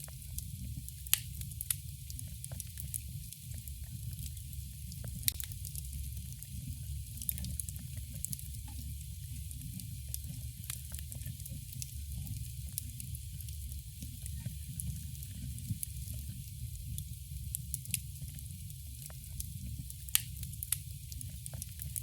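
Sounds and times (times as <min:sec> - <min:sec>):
campfire crackling: 0:00.1 - 0:22.0.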